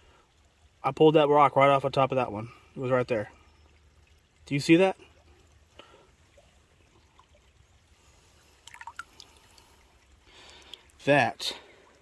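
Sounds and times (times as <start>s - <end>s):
creek trickling: 0.0s - 12.0s
water splashes and drips: 0.0s - 12.0s.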